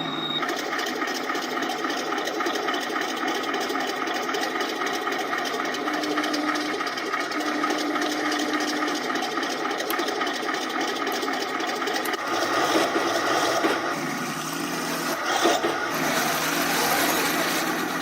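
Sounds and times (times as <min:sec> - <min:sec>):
simulated tank engine sound: 0:00.0 - 0:18.0.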